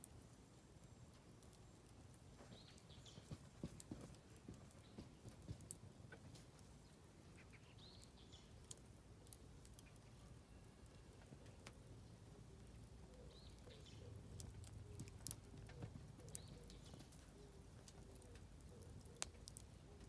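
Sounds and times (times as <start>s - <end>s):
firewood crackling and popping: 0.0s - 20.0s
bird chirping: 2.4s - 5.4s, 6.8s - 20.0s.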